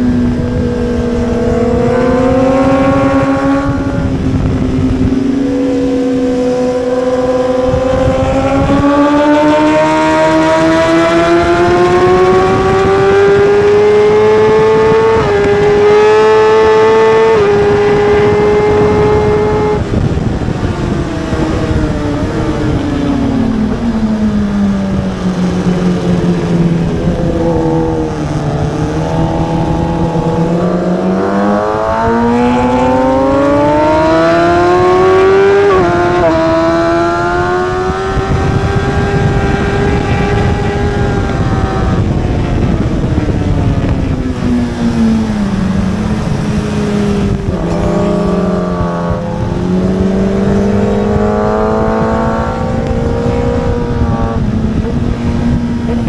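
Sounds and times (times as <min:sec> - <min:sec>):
motorbike engine running hard: 0:00.0 - 0:56.0.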